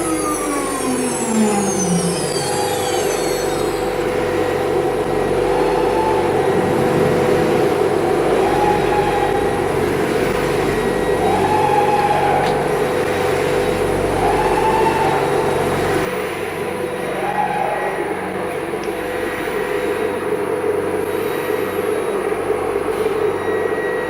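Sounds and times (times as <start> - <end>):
router spindle whine and hum: 0.0 - 24.0.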